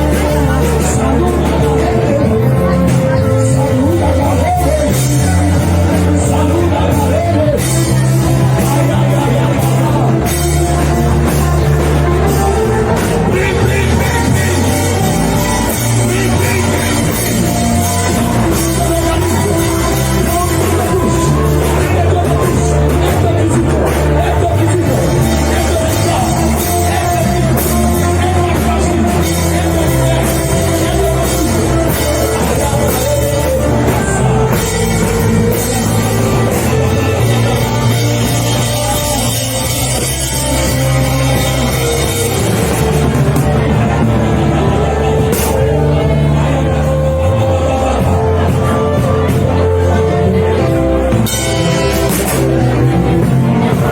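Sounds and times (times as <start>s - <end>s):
drum kit: 0.0s - 53.9s
held bass notes: 0.0s - 53.9s
worship band playing: 0.0s - 53.9s.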